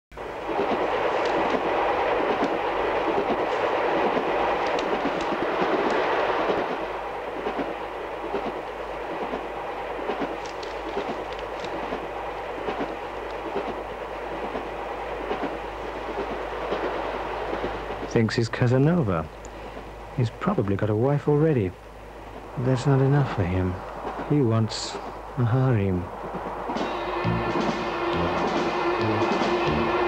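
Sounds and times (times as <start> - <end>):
train rumble and rattle: 0.1 - 30.0.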